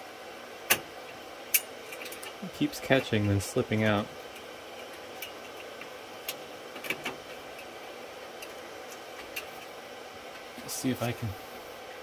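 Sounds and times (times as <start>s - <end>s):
server cooling fans whirring: 0.0s - 12.0s.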